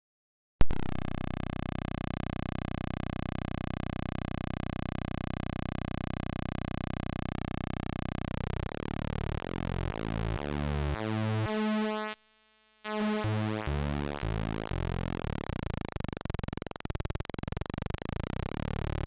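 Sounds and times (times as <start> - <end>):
harsh buzzy square-wave tone: 0.7 - 19.0.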